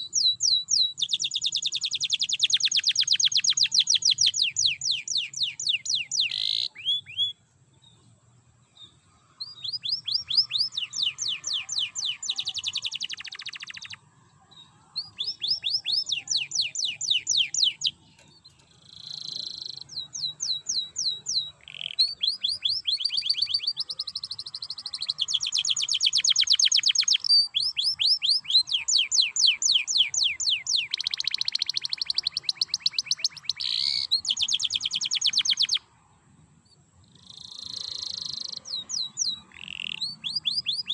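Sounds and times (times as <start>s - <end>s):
canary singing trills: 0.0s - 8.1s, 8.8s - 35.9s, 36.7s - 40.9s.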